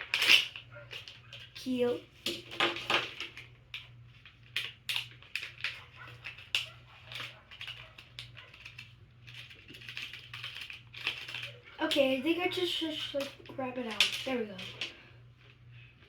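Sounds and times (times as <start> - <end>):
plastic packaging clicks and rustles: 0.0 - 15.6
steady low hum: 0.0 - 16.0.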